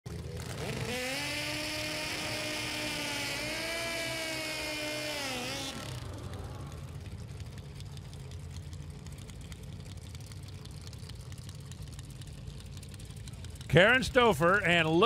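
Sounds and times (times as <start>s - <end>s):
motorcycle engine revving: 0.1s - 14.2s
tire spinning: 0.1s - 15.0s.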